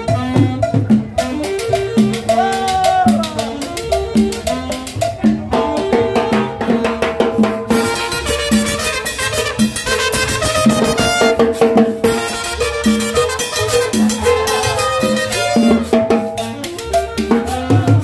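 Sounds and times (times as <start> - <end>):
congas: 0.0 - 18.0
trumpet: 0.0 - 18.0
upright bass: 0.0 - 18.0.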